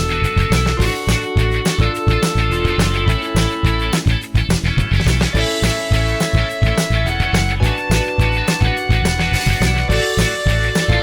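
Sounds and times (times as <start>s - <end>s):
guitar rock music: 0.0s - 11.0s.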